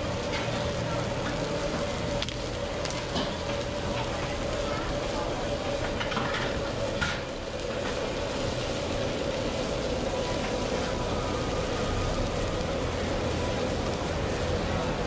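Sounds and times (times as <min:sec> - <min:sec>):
gas burner roaring: 0:00.0 - 0:15.0
oysters sizzling in a wok: 0:00.0 - 0:15.0.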